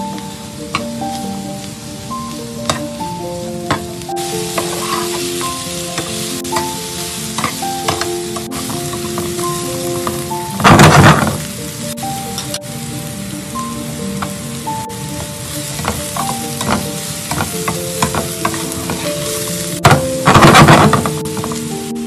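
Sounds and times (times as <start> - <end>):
vegetables sizzling in frying pan: 0.0 - 22.0.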